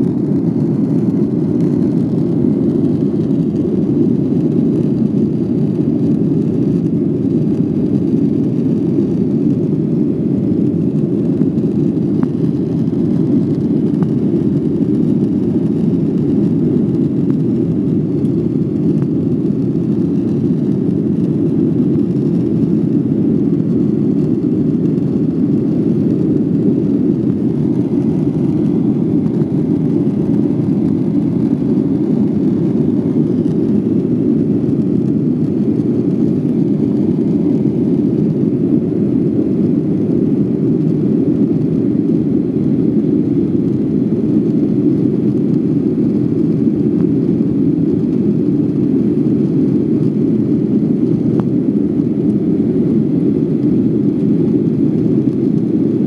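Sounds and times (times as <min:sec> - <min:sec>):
jet airliner cabin rumble: 0:00.0 - 0:56.0.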